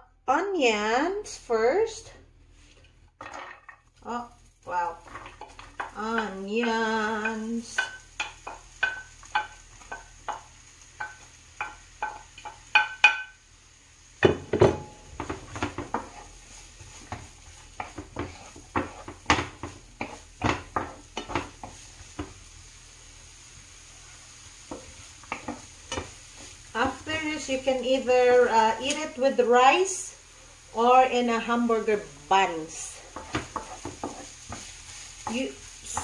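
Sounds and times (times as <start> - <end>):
faint oil sizzling: 0.8 - 36.0
spatula stirring in a frying pan: 2.5 - 36.0.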